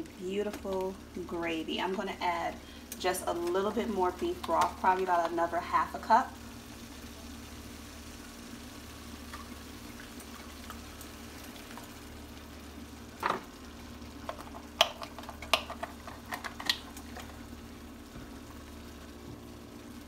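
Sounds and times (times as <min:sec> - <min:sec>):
gravy bubbling in a skillet: 0:00.0 - 0:20.0.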